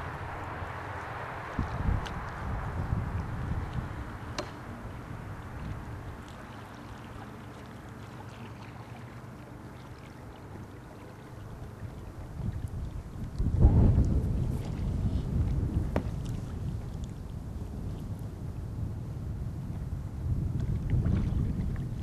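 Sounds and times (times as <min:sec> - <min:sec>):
wind buffeting microphone: 0:00.0 - 0:07.2, 0:11.3 - 0:22.0.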